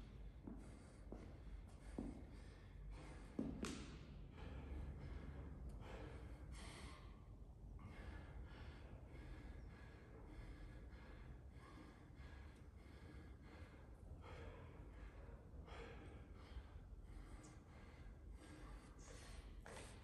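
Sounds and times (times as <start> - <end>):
man breathing hard: 0.0 - 20.0.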